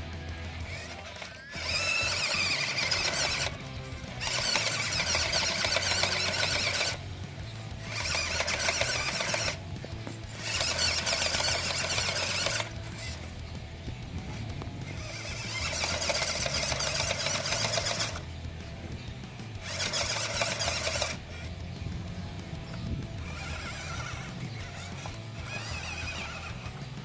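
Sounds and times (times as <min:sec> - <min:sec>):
background music: 0:00.0 - 0:27.0
small electric motor whining: 0:00.0 - 0:27.0.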